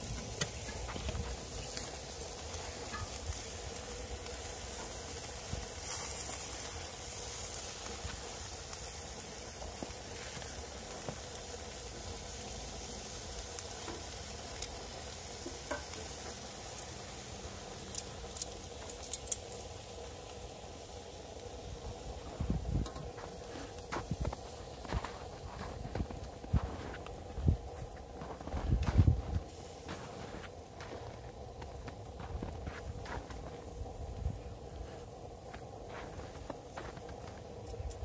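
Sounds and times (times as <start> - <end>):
meat sizzling on grill: 0.0 - 38.0.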